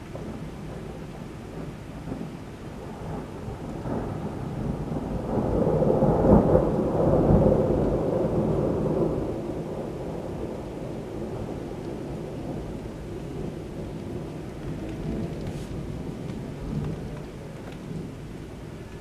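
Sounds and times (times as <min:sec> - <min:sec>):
steady rain: 0:00.0 - 0:19.0
thunder rolling: 0:00.0 - 0:19.0.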